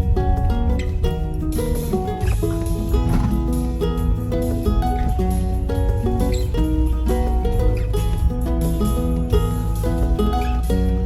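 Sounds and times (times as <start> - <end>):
plucked acoustic guitar: 0.0 - 11.0
steady bass line: 0.0 - 11.0.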